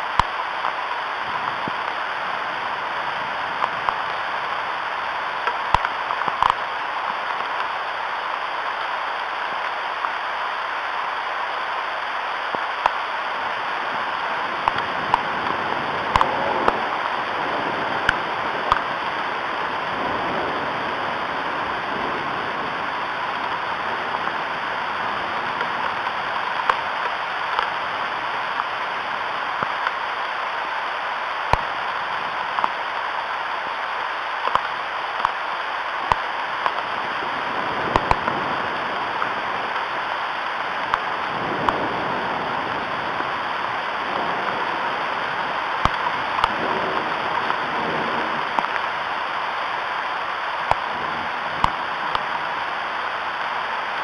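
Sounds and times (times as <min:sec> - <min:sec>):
raindrops ticking: 0:00.0 - 0:20.3, 0:22.6 - 0:54.0
steady rain hiss: 0:00.0 - 0:54.0.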